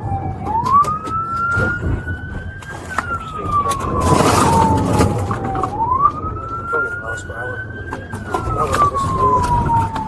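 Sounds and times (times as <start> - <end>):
low vehicle rumble: 0.0 - 10.0
police siren wailing: 0.0 - 10.0.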